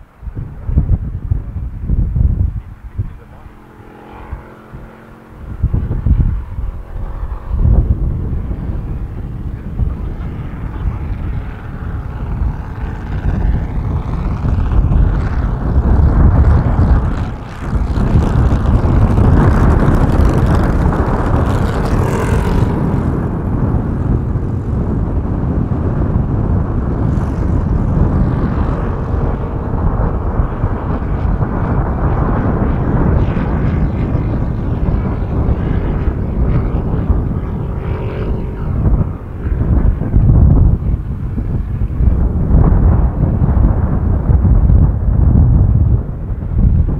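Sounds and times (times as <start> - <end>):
wind buffeting microphone: 0.0 - 46.9
model plane engine running: 1.9 - 46.2.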